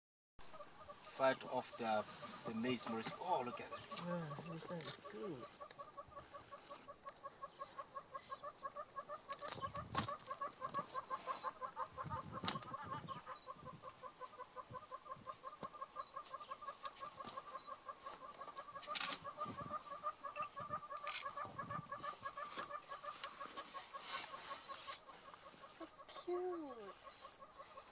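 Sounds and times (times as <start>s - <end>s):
rapid clucking animal call: 0.4s - 27.9s.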